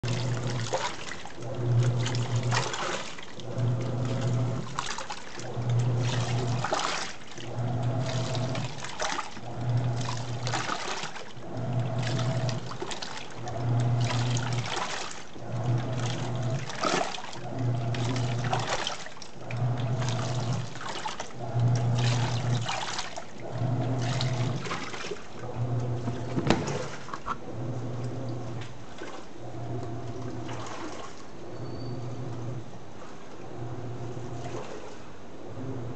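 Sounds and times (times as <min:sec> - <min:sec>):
washing machine motor humming: 0:00.0 - 0:35.9
water churning and splashing: 0:00.0 - 0:35.9.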